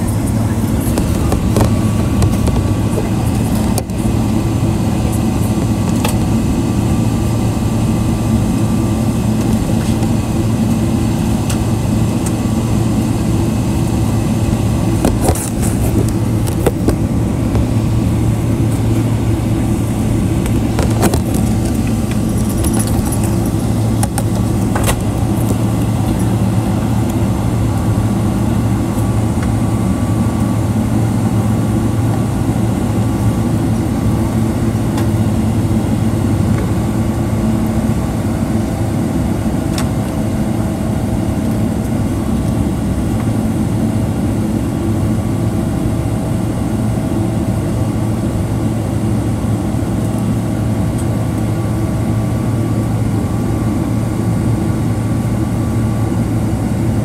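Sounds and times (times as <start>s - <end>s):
aircraft engine and cabin air hum: 0.0s - 57.0s.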